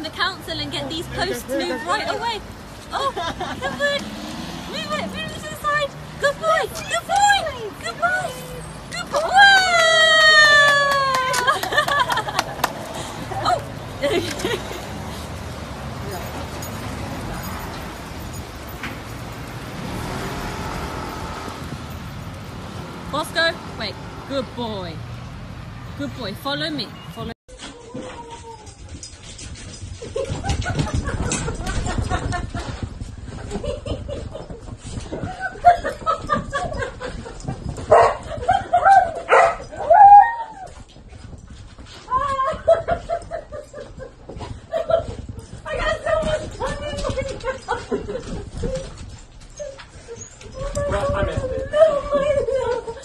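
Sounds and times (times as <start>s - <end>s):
city street traffic rumble: 0.0s - 53.0s.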